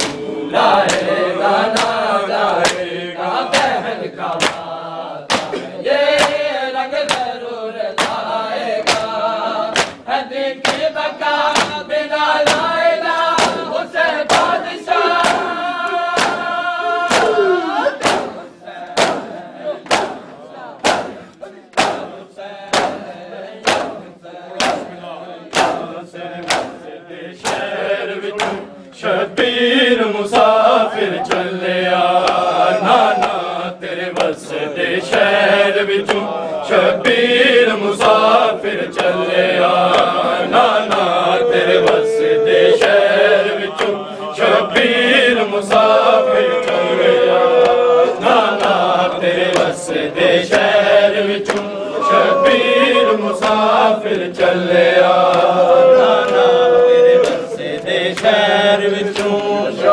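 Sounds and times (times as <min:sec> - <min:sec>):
chanted recitation: 0:00.0 - 0:59.9
people beating their chests: 0:00.0 - 0:59.9.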